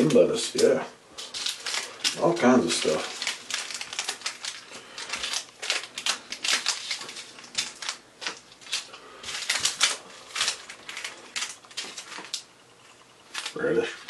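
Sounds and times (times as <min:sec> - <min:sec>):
foil packets crinkling: 0:00.0 - 0:12.5, 0:13.2 - 0:14.0.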